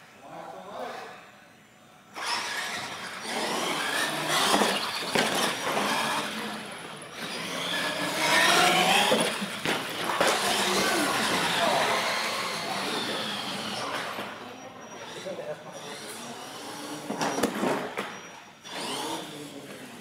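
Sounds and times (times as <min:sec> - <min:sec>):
toy truck motors whining: 0:02.2 - 0:20.0.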